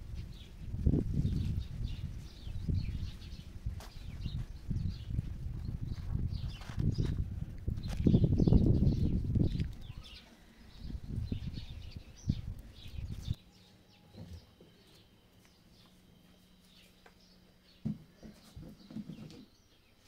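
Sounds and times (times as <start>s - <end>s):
faint steady hum: 0.0s - 20.0s
small birds chirping: 0.0s - 20.0s.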